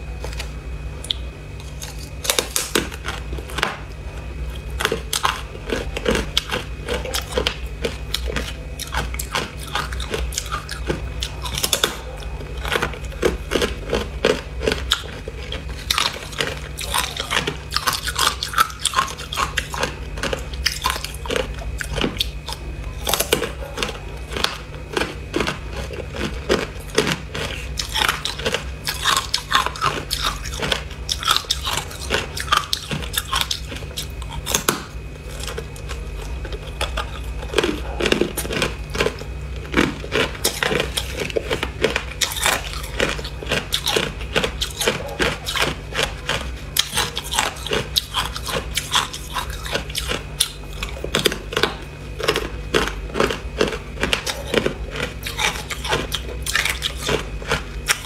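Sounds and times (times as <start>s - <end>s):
ice crunched and chewed: 0.1s - 58.0s.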